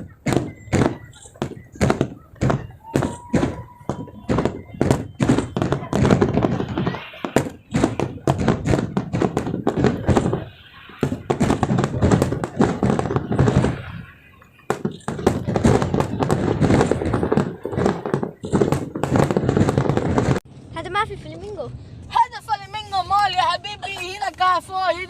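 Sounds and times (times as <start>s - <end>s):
fireworks bangs and crackles: 0.0s - 20.4s.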